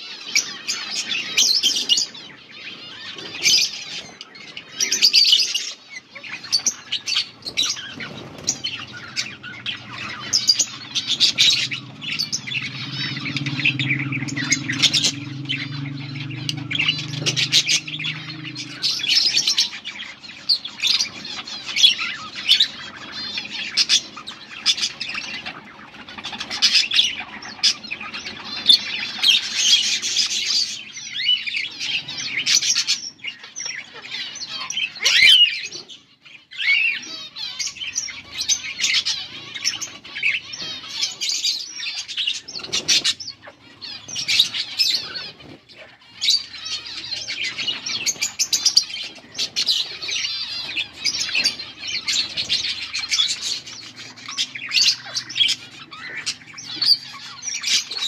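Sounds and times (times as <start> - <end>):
budgerigars chirping and warbling: 0.0 - 58.0.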